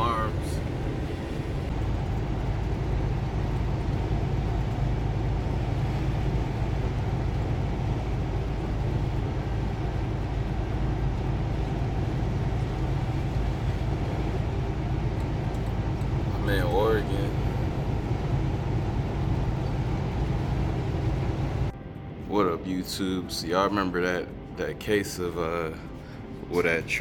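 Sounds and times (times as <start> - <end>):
truck engine and road rumble: 0.0 - 27.0.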